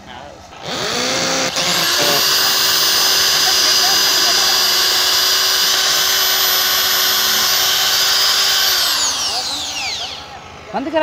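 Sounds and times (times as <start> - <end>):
electric drill whining: 0.6 - 10.8.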